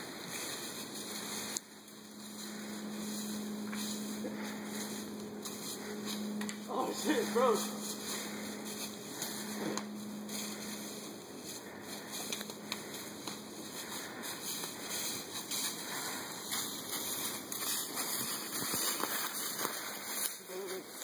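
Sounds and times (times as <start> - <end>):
dry leaves crunching underfoot: 0.0 - 21.0.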